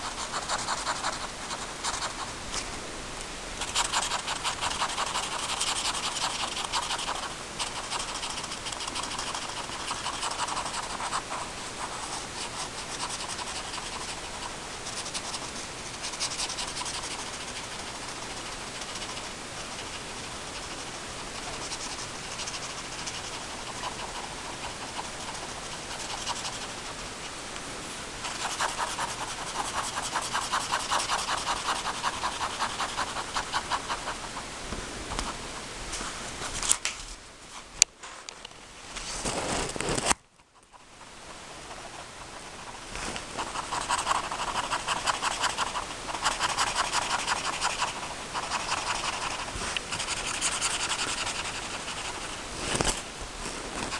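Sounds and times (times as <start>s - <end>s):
pencil scratching on paper: 0.0s - 2.4s, 3.6s - 27.0s, 28.2s - 34.4s, 41.3s - 53.0s.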